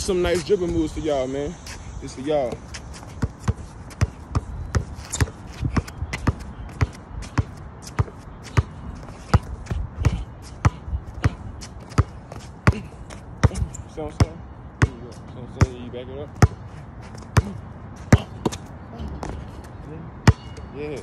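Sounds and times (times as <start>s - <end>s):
basketball bouncing on concrete: 2.4s - 21.0s.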